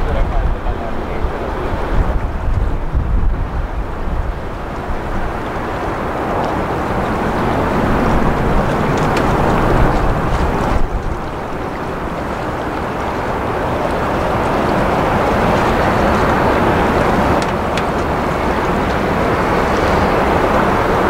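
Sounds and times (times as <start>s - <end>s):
jet engines rumbling at takeoff: 0.0s - 21.0s.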